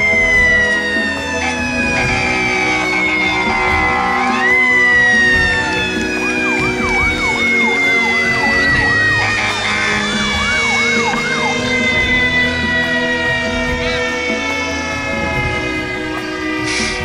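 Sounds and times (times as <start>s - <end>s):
siren sliding down in pitch: 0.0s - 17.0s
siren yelping rapidly: 0.0s - 17.0s.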